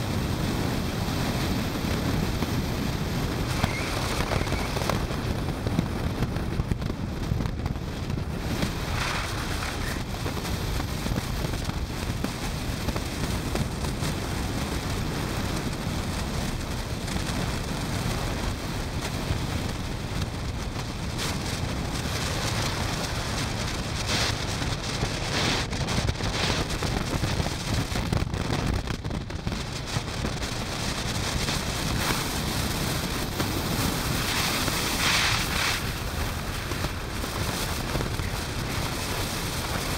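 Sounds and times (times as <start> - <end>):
motorcycle road and engine noise: 0.0 - 39.9
wind buffeting microphone: 0.0 - 39.9.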